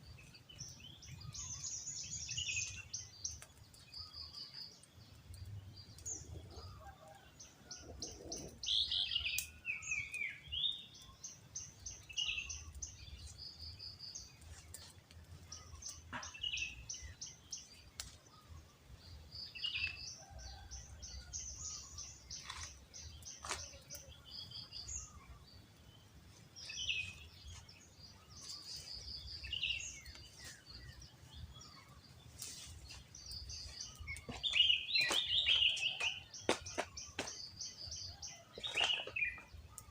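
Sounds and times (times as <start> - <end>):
small birds calling: 0.0 - 39.9.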